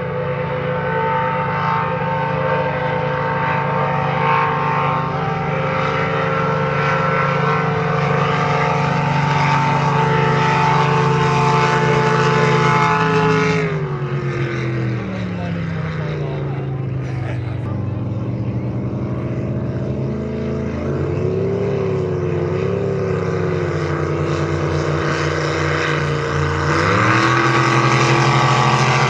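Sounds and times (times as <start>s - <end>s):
powerboat engines droning: 0.0s - 29.0s.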